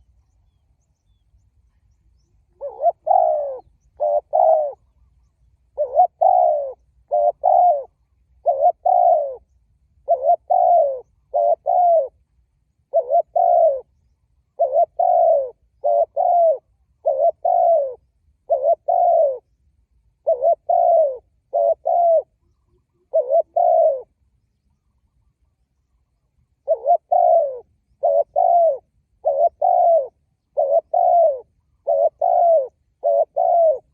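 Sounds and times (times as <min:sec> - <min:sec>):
dove cooing: 0:00.0 - 0:00.3, 0:02.2 - 0:24.2, 0:24.8 - 0:33.9.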